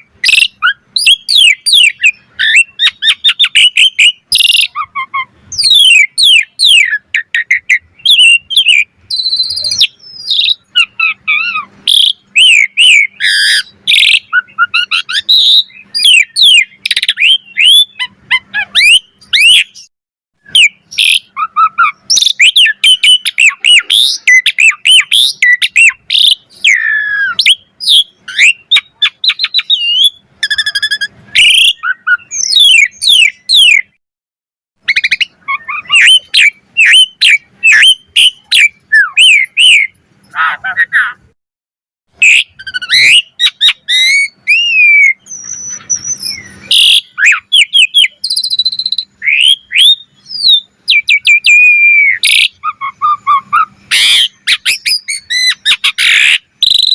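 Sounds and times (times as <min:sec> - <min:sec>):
starling singing: 0:00.0 - 0:34.0, 0:34.8 - 0:41.4, 0:42.1 - 0:56.9.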